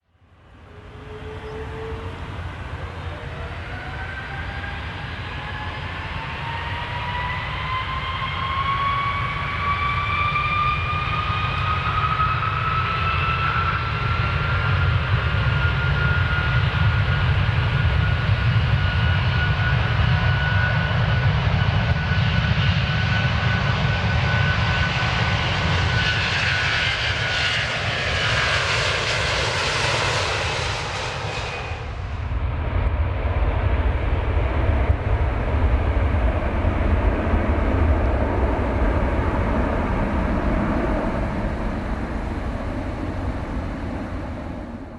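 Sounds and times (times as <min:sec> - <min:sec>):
airplane engine whine: 0:00.0 - 0:44.9.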